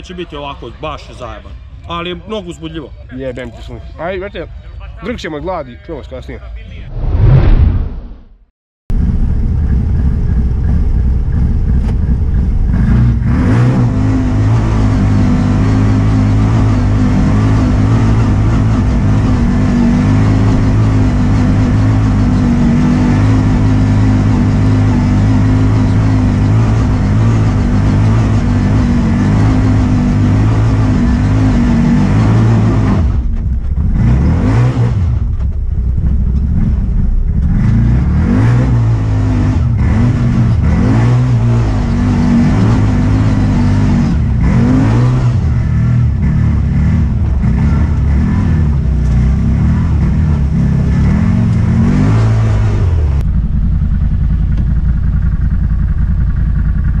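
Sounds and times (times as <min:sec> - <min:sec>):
motorcycle engine revving: 0:09.0 - 0:57.0.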